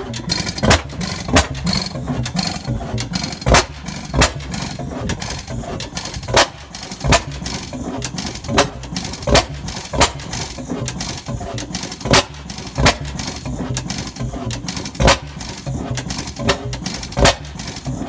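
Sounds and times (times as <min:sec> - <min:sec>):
light mechanical clatter: 0:00.0 - 0:18.0
stationary engine exhaust beats: 0:00.0 - 0:18.0.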